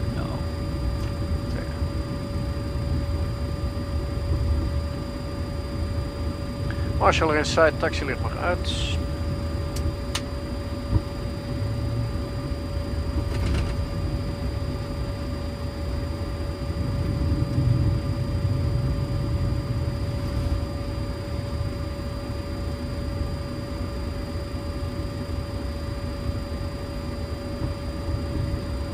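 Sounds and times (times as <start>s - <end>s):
air conditioning: 0.0s - 28.9s
jet engines idling: 0.0s - 28.9s
thin electrical hum: 0.0s - 28.9s.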